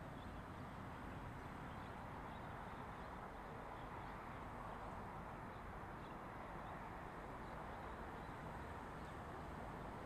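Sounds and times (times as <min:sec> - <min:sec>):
road traffic hum: 0:00.0 - 0:10.0.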